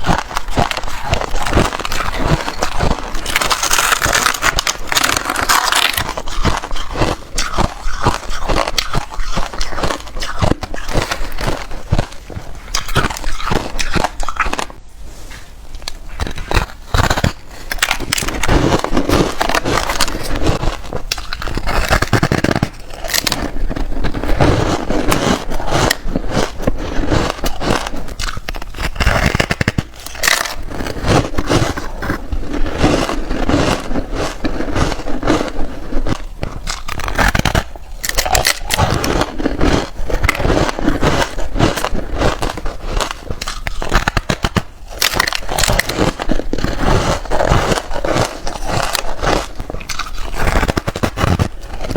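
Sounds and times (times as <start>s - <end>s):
person crunching ice: 0.0s - 14.8s, 15.8s - 51.9s.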